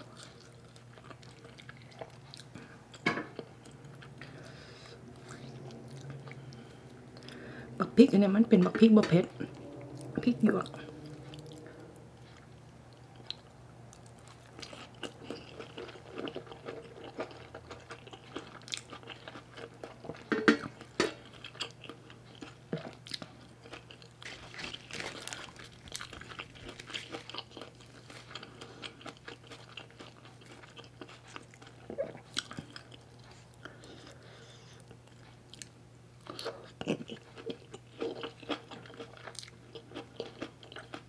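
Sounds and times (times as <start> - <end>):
person chewing crunchy food: 0.0 - 7.8, 9.4 - 41.0.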